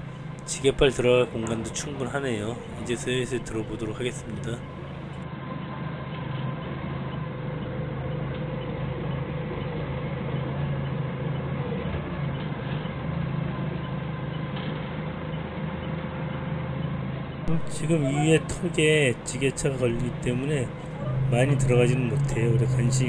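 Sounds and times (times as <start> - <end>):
forklift engine humming: 0.0 - 23.0.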